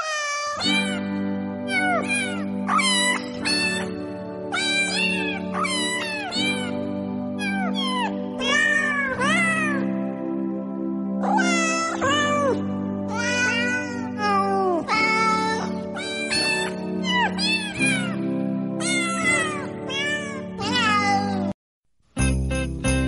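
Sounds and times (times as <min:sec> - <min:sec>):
cat meowing: 0:00.0 - 0:06.8, 0:07.4 - 0:09.9, 0:11.2 - 0:18.2, 0:18.8 - 0:21.6
background music with low notes: 0:00.6 - 0:21.5, 0:22.2 - 0:23.0.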